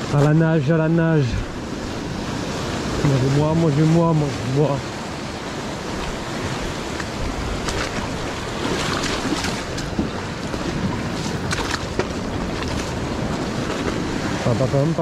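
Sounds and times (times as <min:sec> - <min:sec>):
surf breaking over rocks: 0:00.0 - 0:15.0
wind on microphone: 0:00.0 - 0:15.0.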